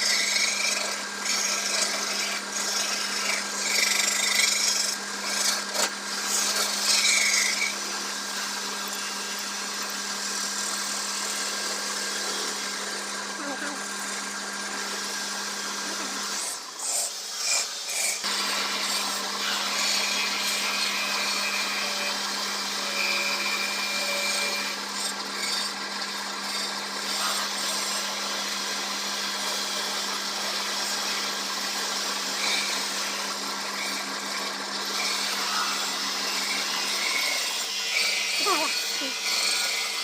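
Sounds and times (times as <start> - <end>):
turning tool scraping wood: 0.0 - 40.0
wood lathe humming: 0.0 - 40.0.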